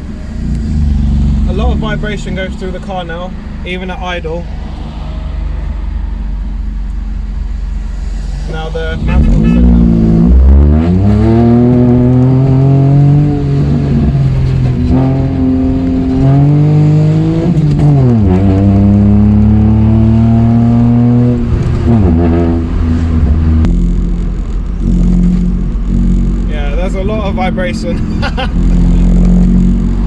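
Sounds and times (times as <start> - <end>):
car engine revving through gears: 0.0 - 27.2, 27.9 - 30.0.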